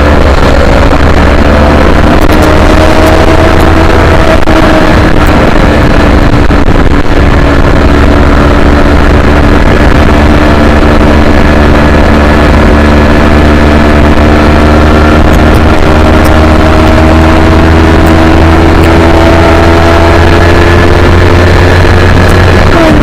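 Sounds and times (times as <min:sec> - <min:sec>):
low wind rumble: 0:00.0 - 0:23.0
motorcycle engine at high revs: 0:00.0 - 0:23.0.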